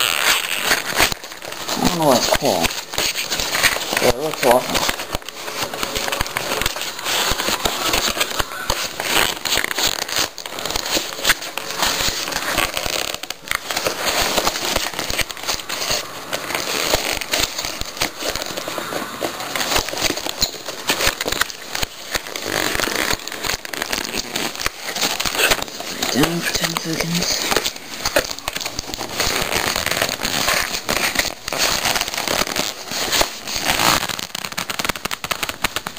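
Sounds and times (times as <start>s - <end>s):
plastic and cardboard crinkling: 0.0s - 35.9s.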